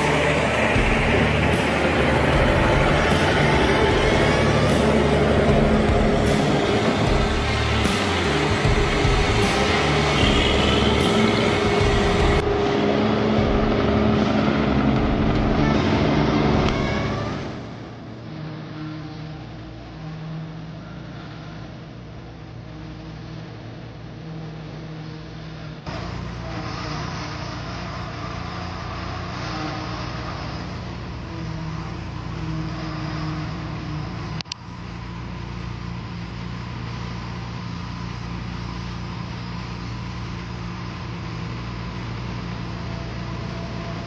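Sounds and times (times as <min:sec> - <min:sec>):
heavy machine engine humming: 0:00.0 - 0:44.0.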